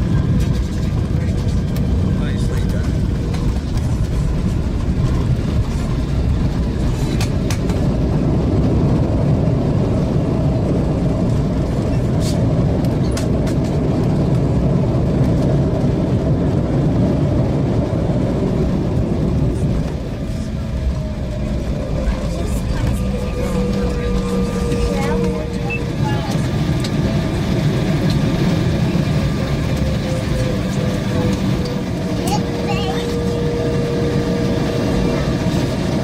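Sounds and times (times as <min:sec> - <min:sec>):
jet engines and wheels rumbling: 0:00.0 - 0:36.0.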